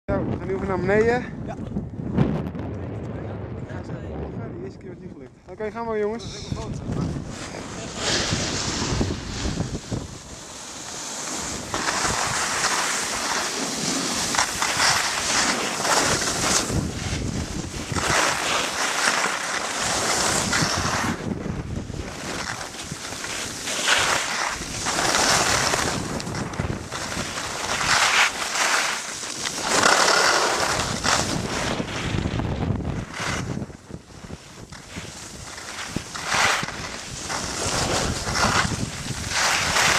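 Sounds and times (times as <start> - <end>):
wind buffeting microphone: 0.1 - 10.4, 14.2 - 18.5, 19.9 - 28.2, 29.6 - 39.9
skis scraping over snow: 6.1 - 39.9.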